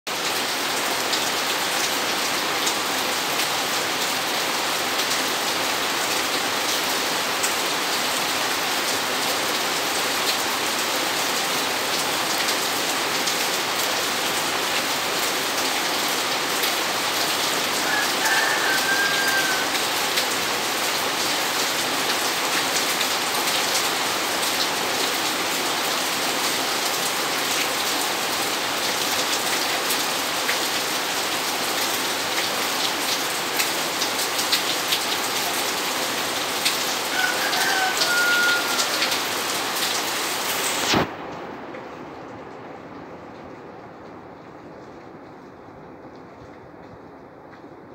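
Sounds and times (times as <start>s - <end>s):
steady rain on paving: 0.1s - 47.9s.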